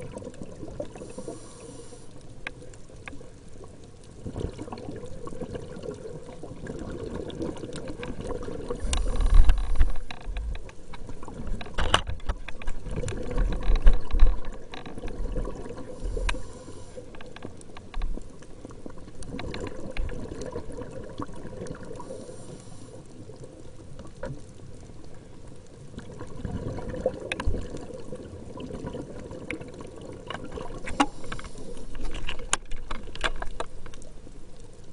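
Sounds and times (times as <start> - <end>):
water sloshing and trickling: 2.5 - 22.3, 25.9 - 34.3.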